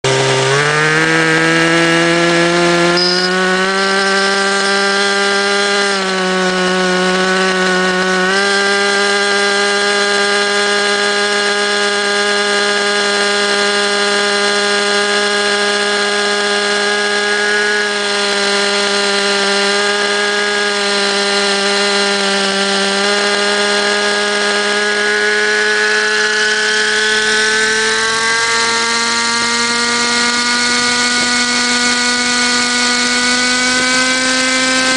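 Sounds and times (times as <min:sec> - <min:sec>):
model helicopter motor whine: 0:00.0 - 0:34.9.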